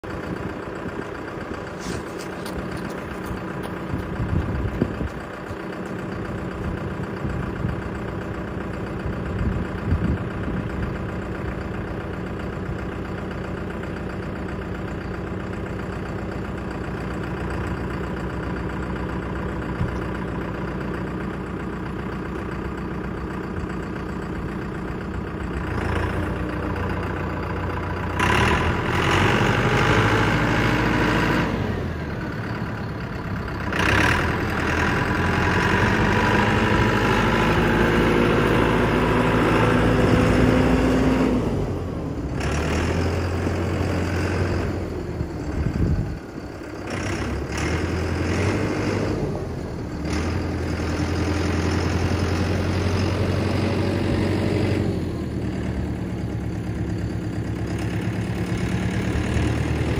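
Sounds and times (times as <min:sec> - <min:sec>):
tractor diesel engine idling and revving: 0:00.0 - 0:59.9.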